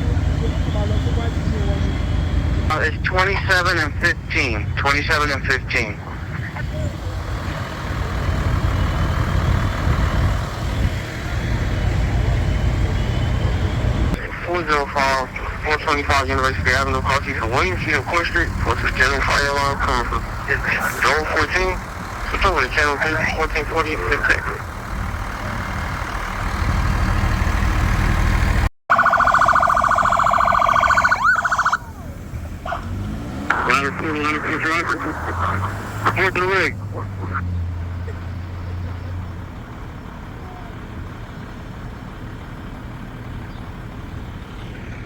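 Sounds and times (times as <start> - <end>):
emergency vehicle siren wailing: 0.0 - 41.0
street noise: 0.0 - 45.0
truck engine rumbling: 0.0 - 45.0.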